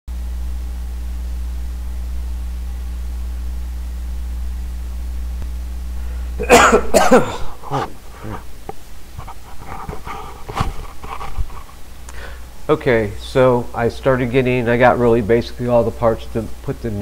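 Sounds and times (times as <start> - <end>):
low electrical hum: 0.1 - 17.0.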